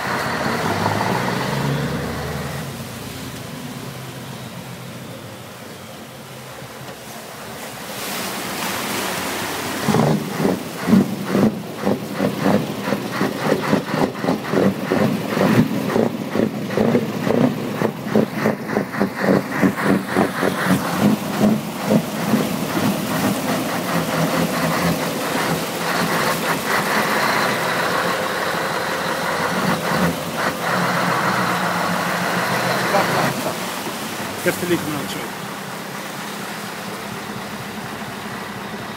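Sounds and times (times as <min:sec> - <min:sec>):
car engine idling: 0:00.0 - 0:07.9, 0:09.3 - 0:38.9.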